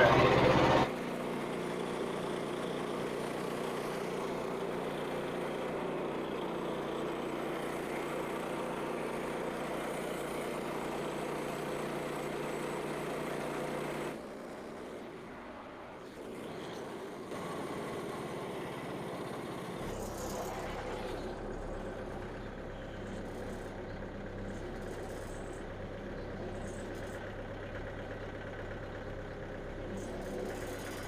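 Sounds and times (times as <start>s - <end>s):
bandsaw mill engine running: 0.0s - 31.0s.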